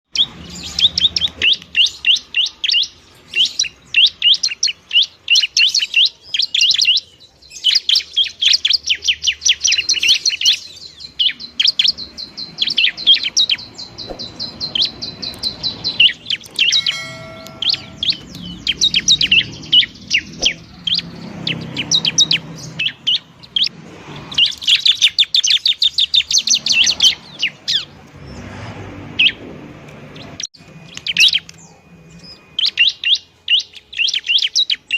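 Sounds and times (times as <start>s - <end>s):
bird singing high notes: 0.1s - 23.7s, 30.2s - 34.9s.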